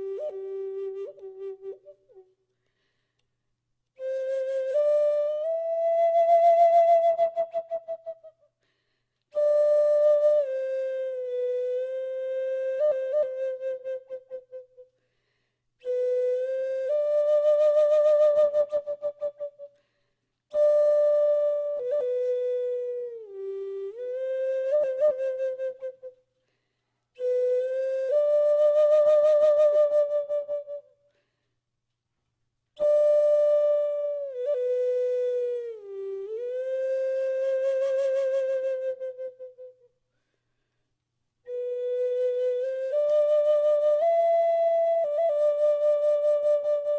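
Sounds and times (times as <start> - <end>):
solo flute long notes: 0.0 - 2.4, 4.0 - 8.5, 9.3 - 14.9, 15.8 - 19.7, 20.5 - 26.2, 27.2 - 31.0, 32.8 - 39.9, 41.5 - 46.9.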